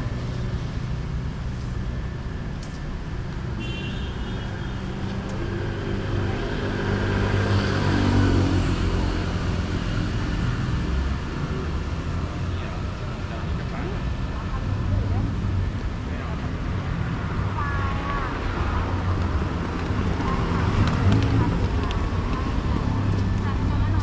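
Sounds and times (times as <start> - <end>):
city road traffic: 0.0 - 24.0.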